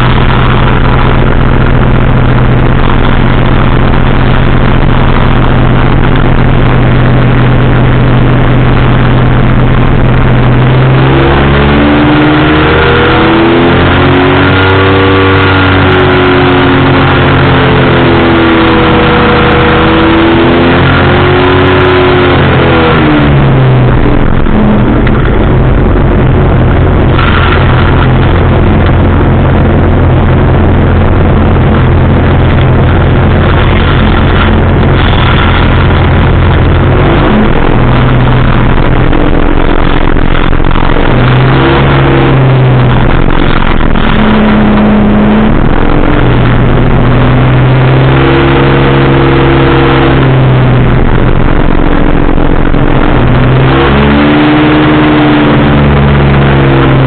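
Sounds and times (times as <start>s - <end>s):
engine and propeller droning: 0.0s - 57.0s.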